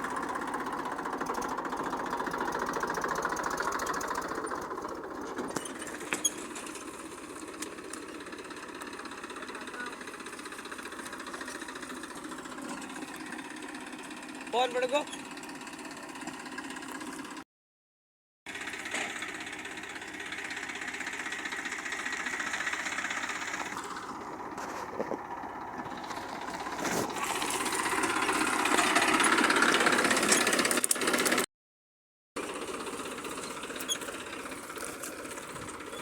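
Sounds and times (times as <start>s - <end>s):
vehicle engine running: 0.0s - 17.4s, 18.5s - 31.5s, 32.4s - 36.0s.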